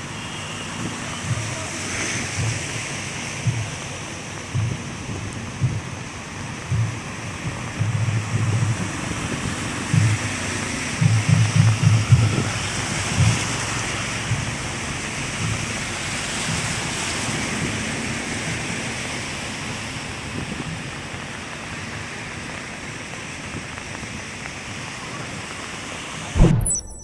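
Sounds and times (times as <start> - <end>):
vehicles splashing through water: 0.0 - 26.8
rain and floodwater rushing: 0.0 - 27.0.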